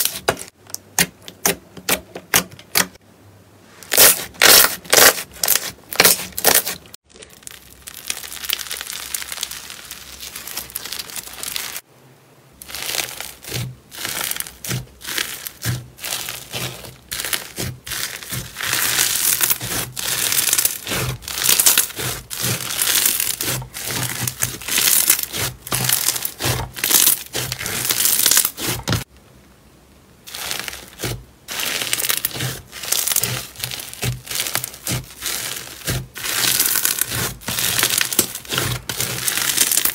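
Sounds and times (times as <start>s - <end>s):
slime squishing and crackling: 0.0s - 1.6s, 3.8s - 11.8s, 12.6s - 29.1s, 30.3s - 39.9s.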